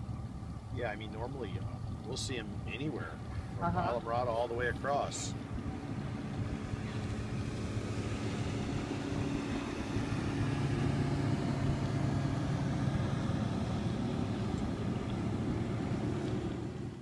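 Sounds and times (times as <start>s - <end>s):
motorboat engine humming: 0.0s - 17.0s.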